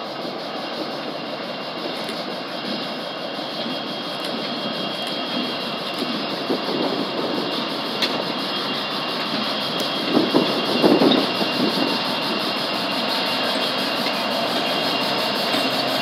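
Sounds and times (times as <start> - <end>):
freight locomotives passing: 0.0 - 16.0
rail noise: 0.0 - 16.0.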